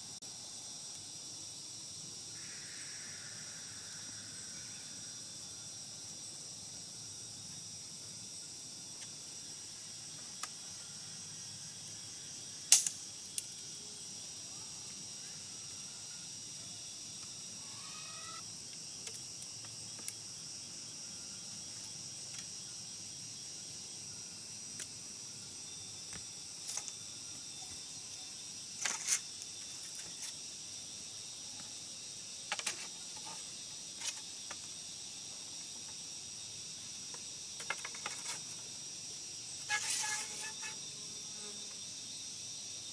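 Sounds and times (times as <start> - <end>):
high insect chorus: 0.0 - 42.9.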